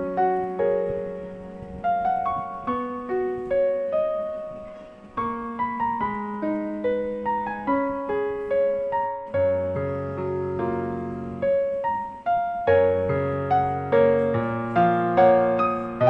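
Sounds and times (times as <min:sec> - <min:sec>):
slow gentle piano melody: 0:00.0 - 0:16.0.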